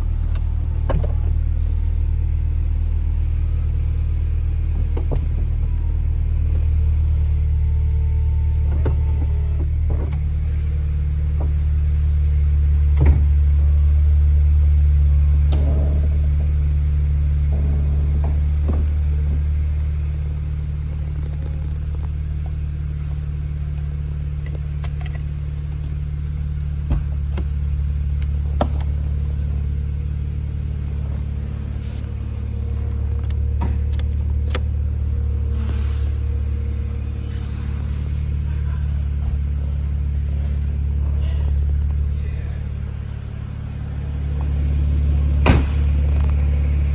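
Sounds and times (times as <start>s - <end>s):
car engine low rumble: 0.0s - 46.9s.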